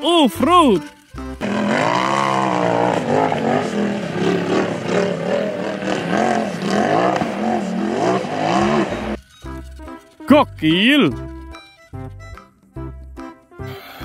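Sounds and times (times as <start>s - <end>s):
car engine revving: 0.4s - 12.1s.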